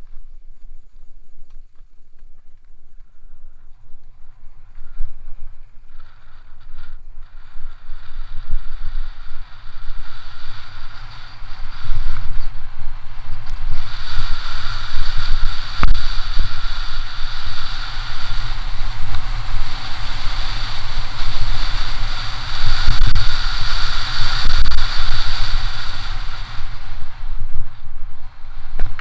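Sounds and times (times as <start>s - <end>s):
freewheel hub buzzing: 0.0s - 29.0s
tyres on loose dirt: 0.0s - 29.0s
wind buffeting microphone: 0.0s - 29.0s.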